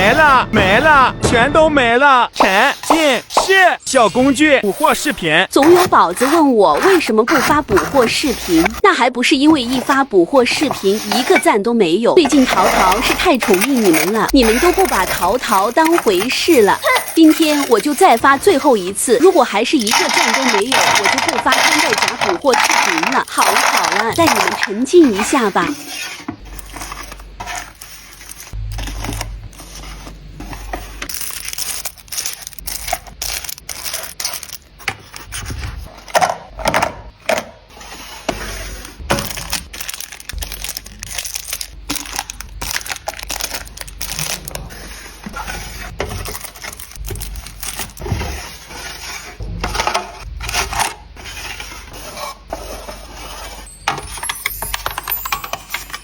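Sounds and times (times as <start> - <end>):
small hard objects clattering: 2.4 - 8.8, 9.5 - 11.5, 12.2 - 36.7, 37.8 - 51.8, 52.6 - 56.0.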